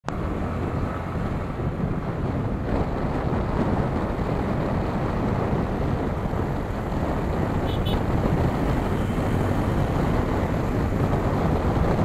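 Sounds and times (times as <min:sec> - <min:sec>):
road noise: 0:00.0 - 0:12.0
wind buffeting microphone: 0:00.1 - 0:12.0.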